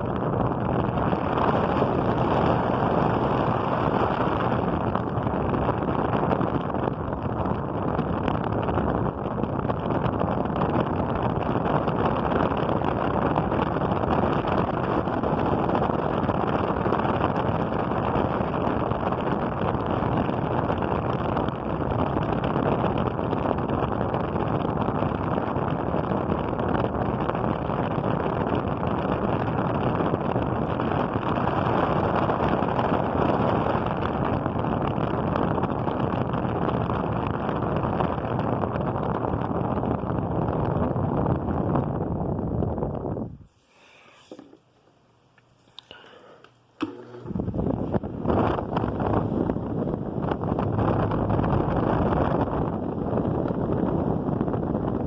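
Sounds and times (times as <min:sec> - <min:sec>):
electric fan rushing air: 0:00.0 - 0:55.0.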